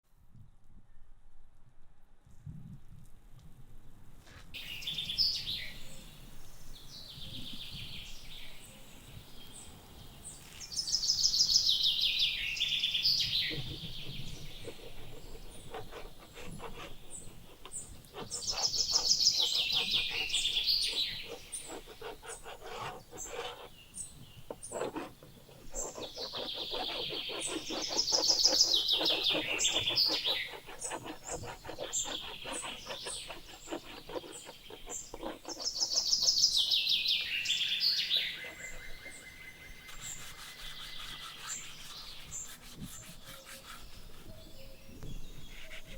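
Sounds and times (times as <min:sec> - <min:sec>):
songbird singing: 0:04.6 - 0:45.9.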